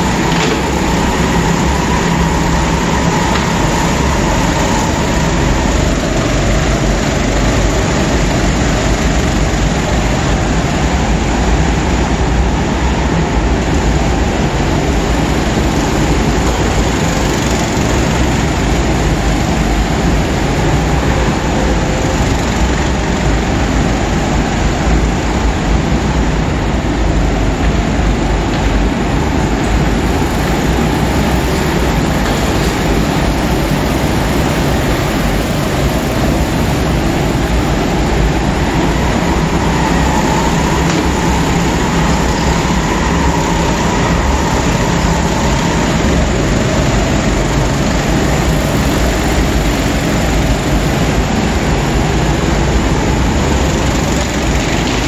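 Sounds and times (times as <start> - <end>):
go-kart engines droning: 0.0 - 55.0.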